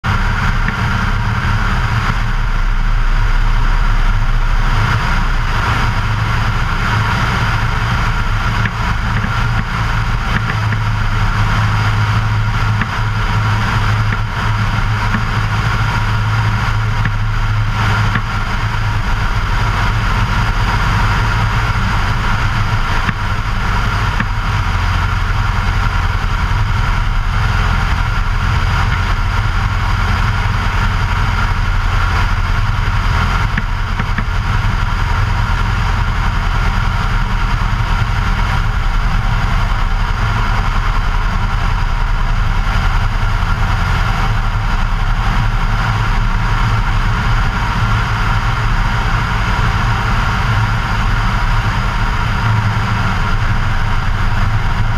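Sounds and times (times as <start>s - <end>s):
airplane engine and propeller: 0.0s - 54.9s
wind rushing on microphone: 0.0s - 54.9s.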